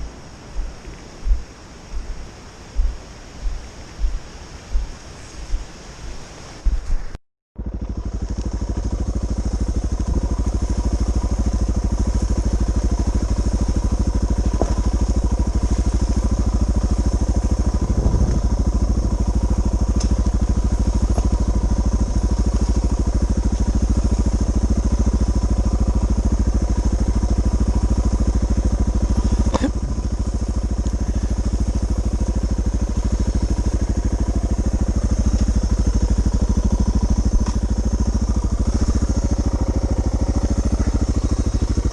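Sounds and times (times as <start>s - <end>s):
single-cylinder engine running: 7.6s - 41.9s.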